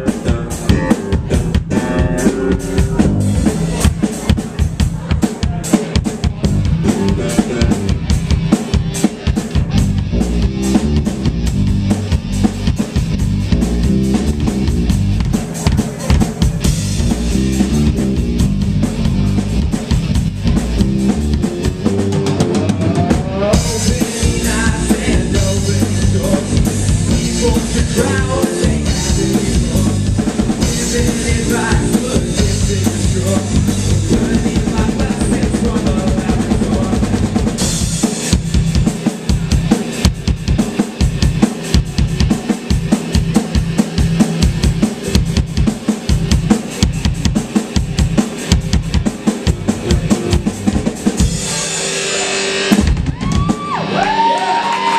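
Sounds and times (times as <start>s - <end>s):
drum hits: 0.0s - 51.7s, 52.7s - 53.8s
live band playing: 0.0s - 54.9s.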